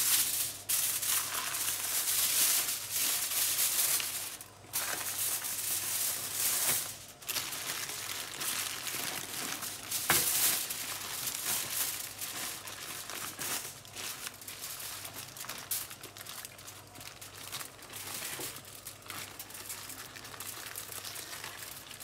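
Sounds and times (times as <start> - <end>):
paper and foil crinkling: 0.0 - 22.0.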